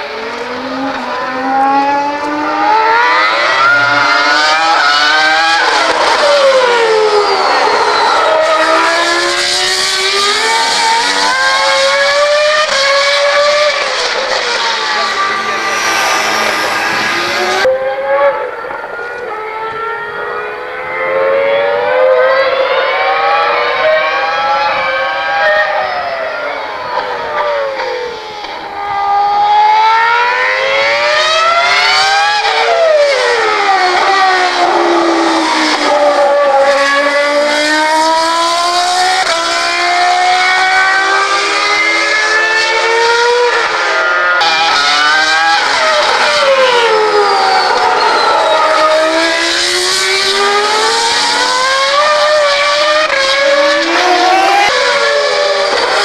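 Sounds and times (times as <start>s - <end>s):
racing car engine at high revs: 0.0s - 56.0s.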